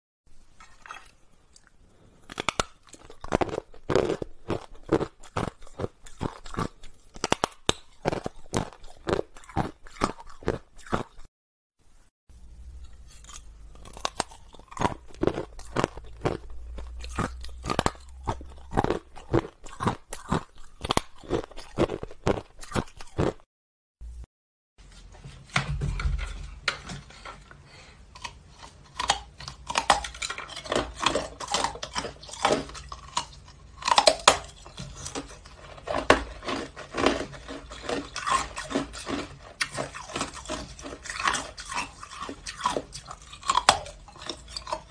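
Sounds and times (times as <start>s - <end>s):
ice being chewed: 0.6s - 11.3s, 12.8s - 23.5s, 27.1s - 44.9s.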